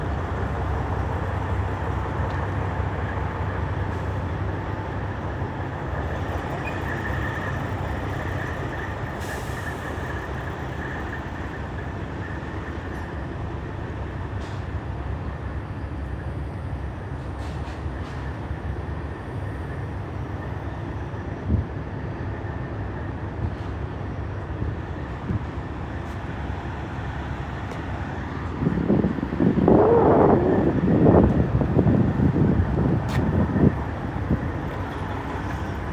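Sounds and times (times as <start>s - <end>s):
truck diesel engines rumbling: 0.0s - 35.9s.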